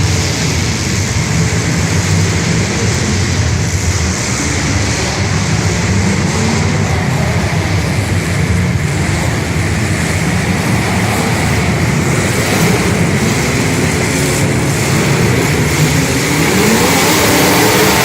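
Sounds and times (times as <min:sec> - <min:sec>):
car engines running loudly: 0:00.0 - 0:18.0
engine revving up: 0:02.0 - 0:18.0.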